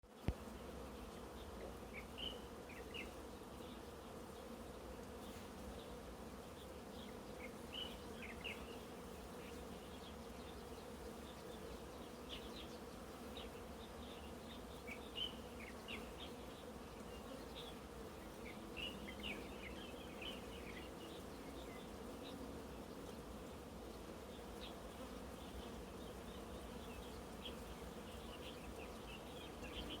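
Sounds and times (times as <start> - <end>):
bees buzzing: 0.1 - 30.0.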